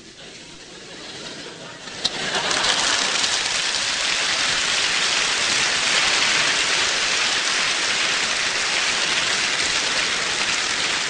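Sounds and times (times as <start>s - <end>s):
audience applause: 1.8s - 11.0s.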